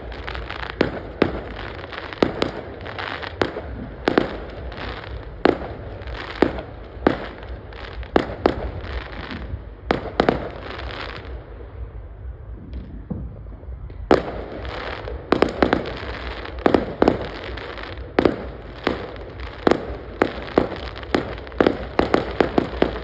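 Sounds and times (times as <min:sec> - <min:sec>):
crackling firework pops: 0:00.0 - 0:11.4, 0:12.6 - 0:23.0
firework bangs: 0:00.0 - 0:23.0.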